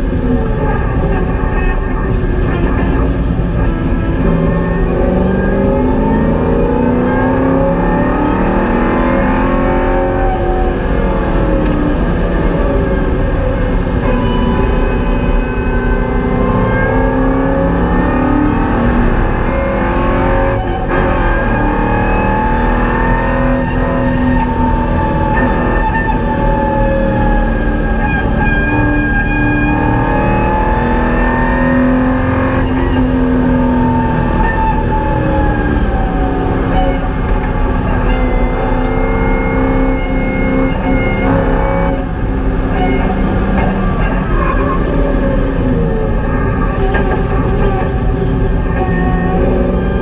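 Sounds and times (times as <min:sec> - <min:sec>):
car engine revving: 0:00.0 - 0:50.0
road rumble: 0:00.0 - 0:50.0.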